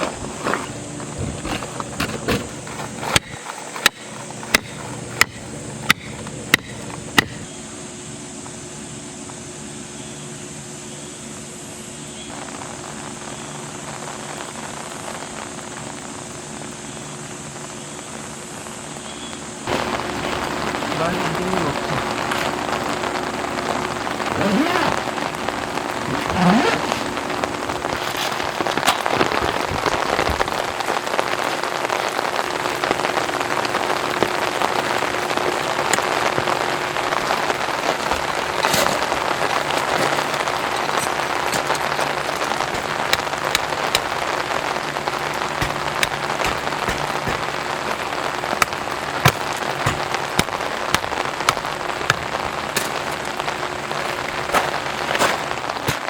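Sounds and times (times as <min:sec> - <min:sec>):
heavy rain drumming on a tent: 0:00.0 - 0:07.5, 0:11.5 - 0:56.0.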